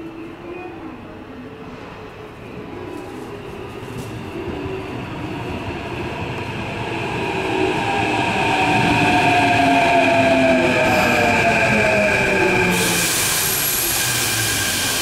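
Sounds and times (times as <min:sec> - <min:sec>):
electric train approaching: 0:02.6 - 0:15.0
train running gear whine: 0:03.0 - 0:15.0.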